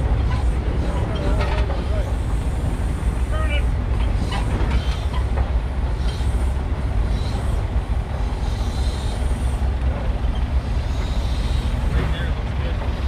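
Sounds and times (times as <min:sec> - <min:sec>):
steam shovel rumbling: 0:00.0 - 0:13.0
faint hissing of steam: 0:00.3 - 0:12.4.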